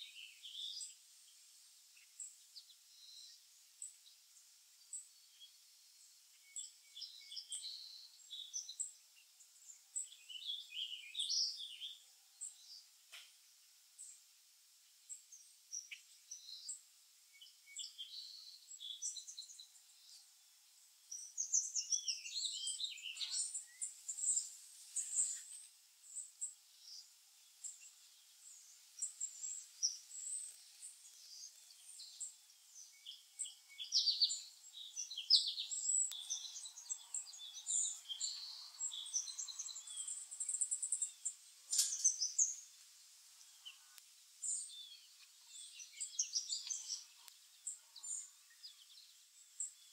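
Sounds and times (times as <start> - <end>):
small songbirds chirping: 0.0 - 49.9.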